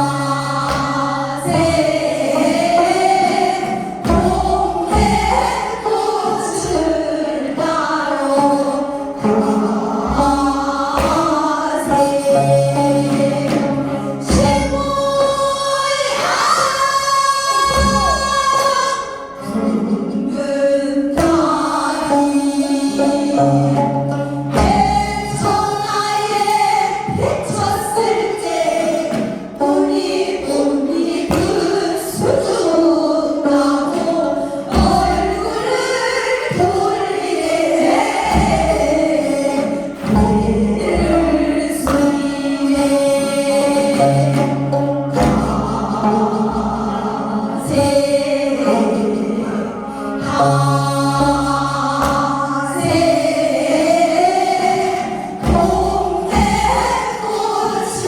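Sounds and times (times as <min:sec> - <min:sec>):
folk song sung with vibrato: 0:00.0 - 0:58.0
instrumental accompaniment: 0:00.0 - 0:58.0.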